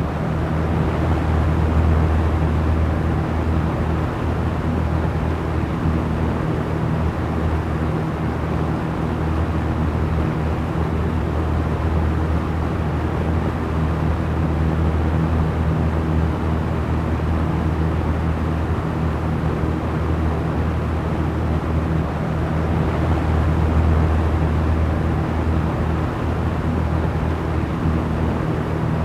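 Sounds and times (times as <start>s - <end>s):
fan motor hum: 0.0s - 29.0s.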